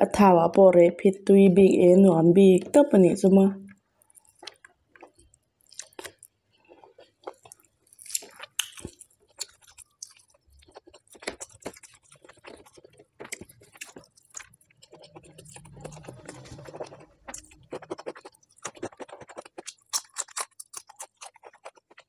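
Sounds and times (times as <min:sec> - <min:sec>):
chewing mouth clicks and smacks: 0:03.7 - 0:22.0.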